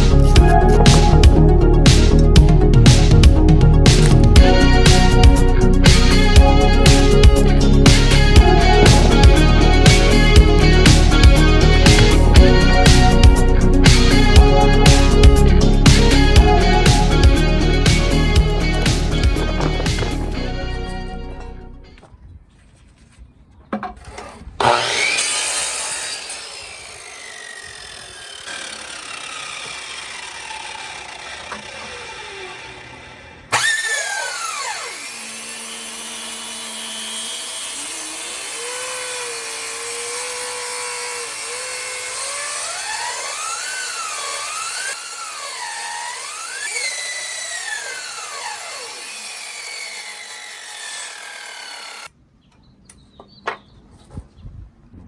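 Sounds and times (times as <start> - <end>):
table saw cutting wood: 0.0 - 3.1, 3.8 - 21.6, 24.1 - 52.1.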